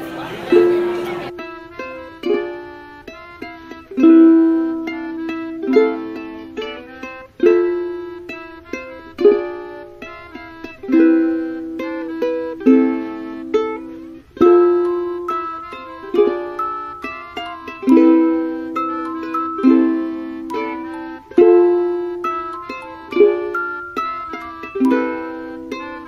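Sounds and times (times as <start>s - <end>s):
plucked string instrument music: 0.0s - 26.0s.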